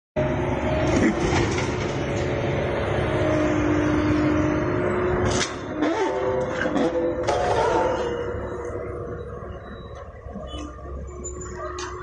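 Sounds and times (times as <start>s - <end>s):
vehicle engine running loudly: 0.2s - 12.0s.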